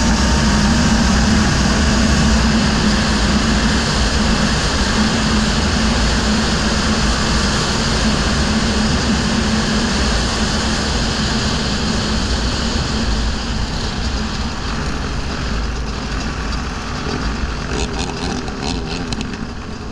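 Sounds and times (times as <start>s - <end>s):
quad engine running hard: 0.0s - 19.9s
steady rush of noise: 0.0s - 19.9s.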